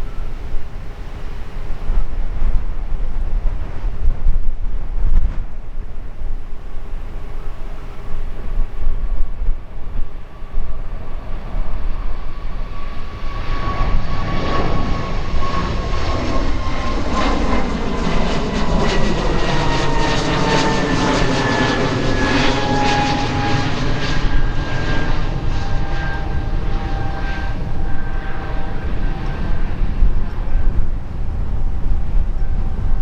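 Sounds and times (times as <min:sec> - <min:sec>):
jet airliner engines roaring: 0:00.0 - 0:33.0.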